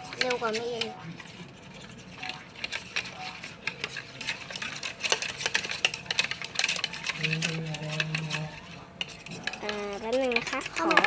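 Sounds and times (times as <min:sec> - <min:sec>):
batter stirred in a bowl: 0:00.0 - 0:11.0
utensil clicking against bowl: 0:00.1 - 0:00.9, 0:02.3 - 0:11.0.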